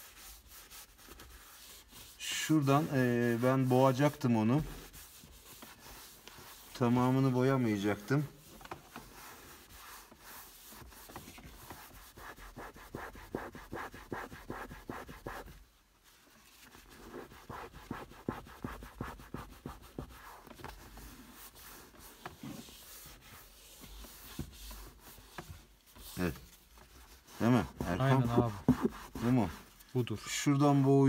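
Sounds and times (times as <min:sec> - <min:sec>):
pad rubbing on leather: 0:00.0 - 0:29.9.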